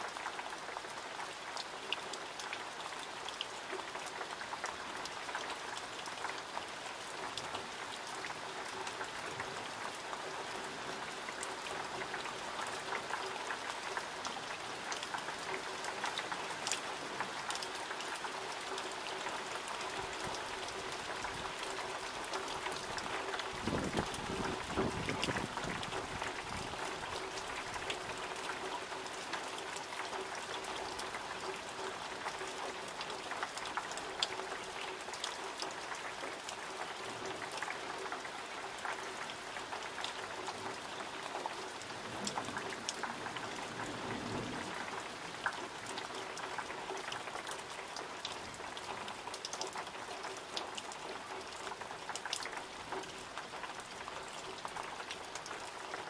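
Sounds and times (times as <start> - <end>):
rain falling: 0.0 - 56.0
raindrops ticking close by: 0.0 - 56.0.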